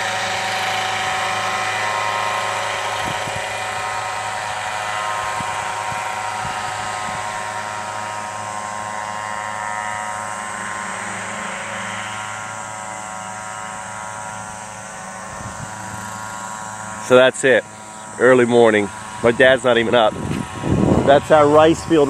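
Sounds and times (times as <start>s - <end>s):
remote-control helicopter droning: 0.0s - 22.0s.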